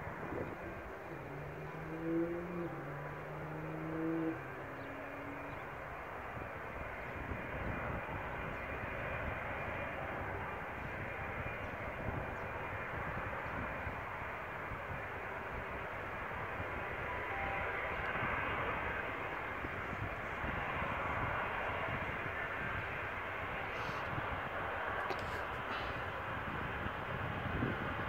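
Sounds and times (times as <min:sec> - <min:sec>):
distant jet engines hissing: 0:00.0 - 0:28.0.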